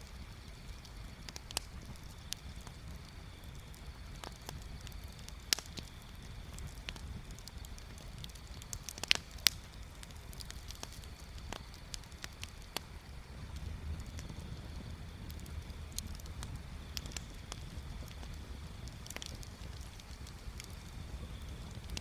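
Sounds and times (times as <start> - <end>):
bonfire crackling and popping: 0.0 - 22.0
low rumble of fire: 0.0 - 22.0.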